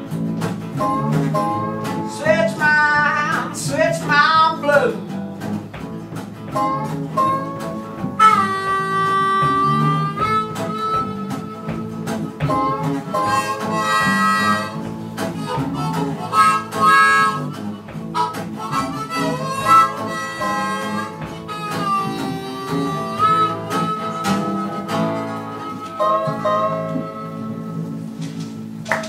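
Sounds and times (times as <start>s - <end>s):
blues harmonica: 0.0s - 28.8s
acoustic guitars picking and strumming: 0.0s - 29.0s.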